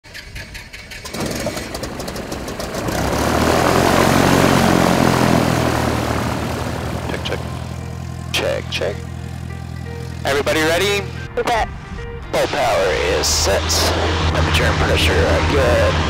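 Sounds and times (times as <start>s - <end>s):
piston engine and propeller drone: 0.1s - 16.0s.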